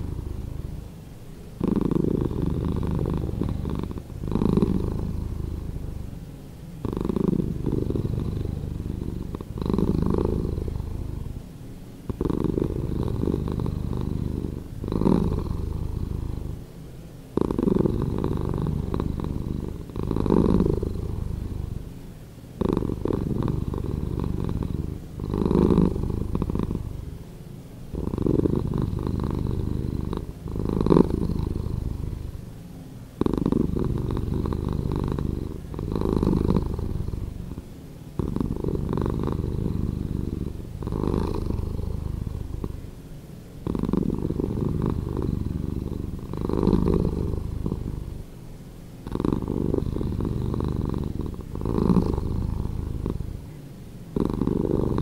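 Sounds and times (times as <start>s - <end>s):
cat purring slowed down: 0.0s - 16.6s, 17.3s - 27.2s, 27.8s - 32.5s, 33.2s - 43.0s, 43.6s - 48.3s, 49.0s - 55.0s.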